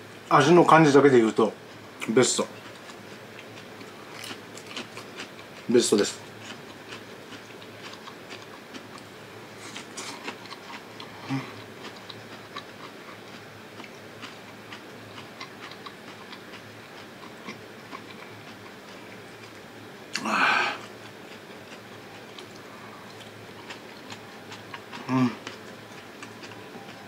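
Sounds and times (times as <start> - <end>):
person chewing food: 2.6 - 27.0.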